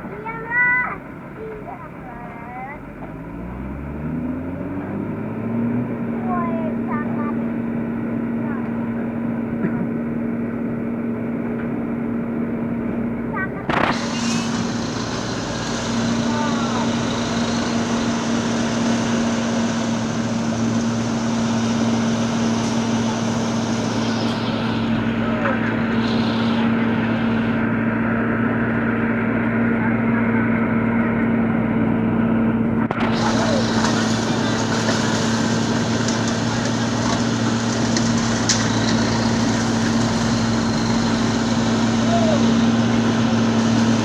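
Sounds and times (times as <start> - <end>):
machinery engine running: 0.0 - 44.0.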